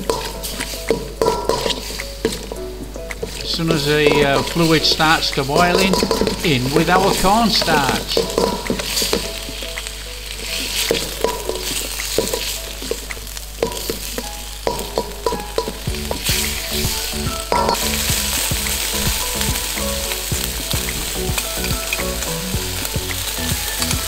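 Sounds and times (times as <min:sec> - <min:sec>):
food sizzling in a metal bowl: 0:00.0 - 0:24.0.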